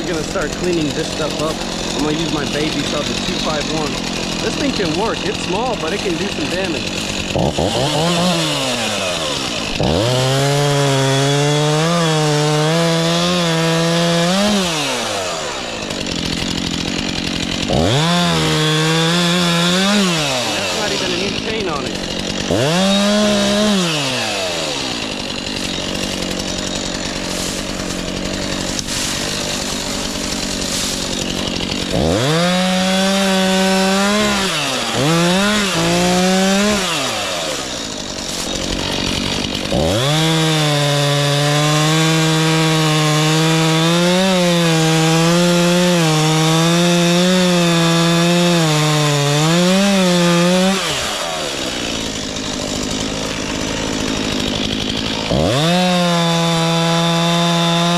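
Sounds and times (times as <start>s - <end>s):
chainsaw revving under load: 0.0s - 57.9s.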